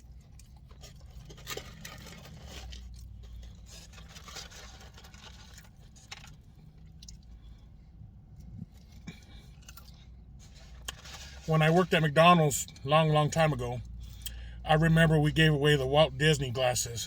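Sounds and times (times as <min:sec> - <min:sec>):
food being handled and eaten: 0:00.0 - 0:14.4.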